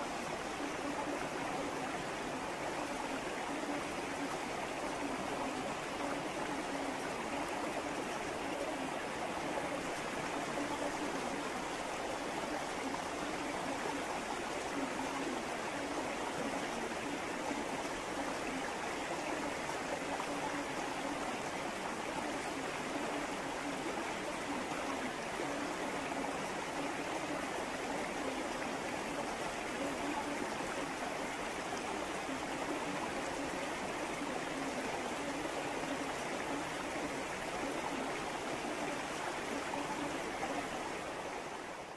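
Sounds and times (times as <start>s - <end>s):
river water rushing and trickling: 0.0s - 41.9s.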